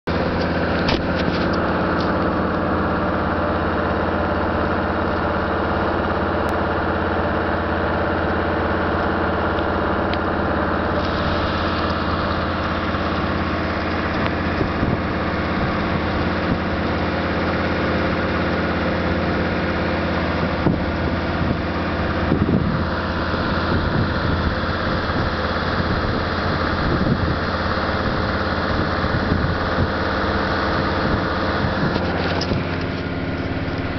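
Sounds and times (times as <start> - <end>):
engine droning: 0.0 - 33.9
tyres pushing through snow: 0.1 - 33.9.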